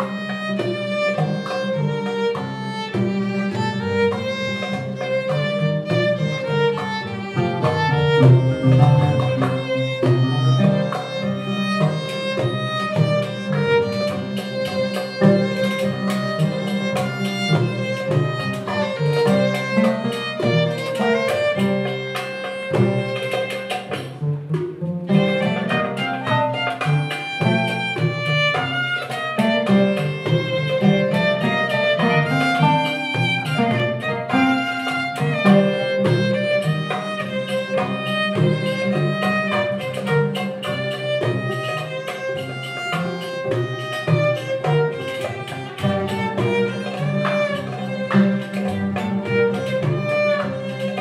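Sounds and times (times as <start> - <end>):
plucked oud: 0.0 - 51.0
violin melody: 0.0 - 51.0
double bass line: 0.1 - 51.0.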